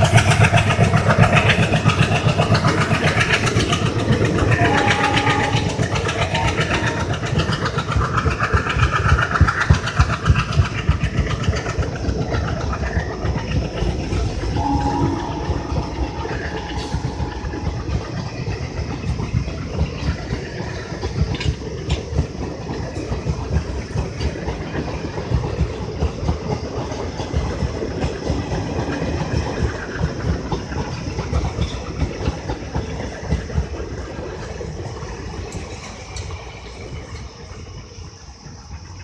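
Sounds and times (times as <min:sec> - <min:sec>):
train knocks: 0:00.0 - 0:39.0
train wheels rumbling on rails: 0:00.0 - 0:39.0.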